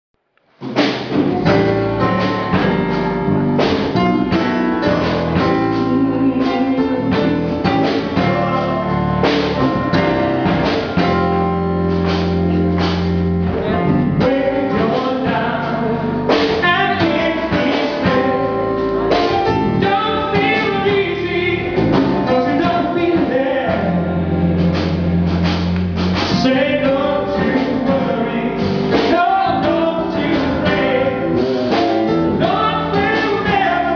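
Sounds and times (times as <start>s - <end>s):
gospel choir with live band: 0.7s - 33.9s.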